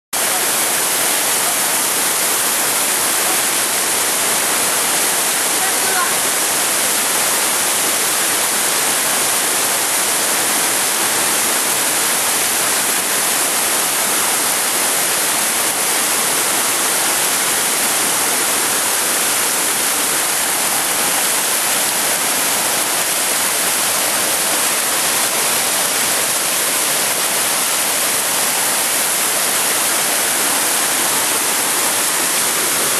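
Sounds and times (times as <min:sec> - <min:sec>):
waterfall rushing: 0:00.2 - 0:32.9.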